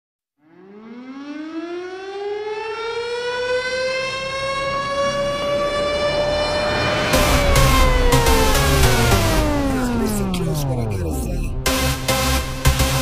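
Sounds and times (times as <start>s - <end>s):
siren winding up: 0.6s - 11.8s.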